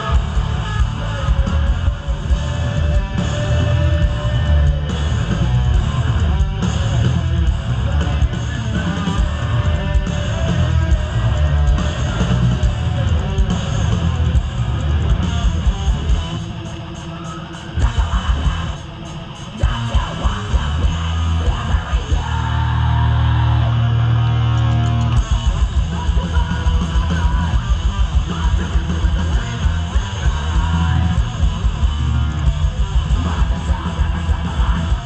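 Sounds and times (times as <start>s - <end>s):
bass guitar: 0.0s - 35.0s
distorted electric guitars: 0.0s - 35.0s.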